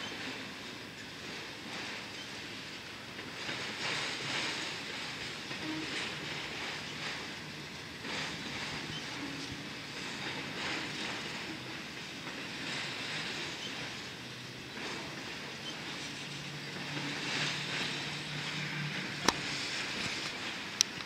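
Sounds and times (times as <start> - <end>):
freight train rumbling past: 2.5 - 20.9.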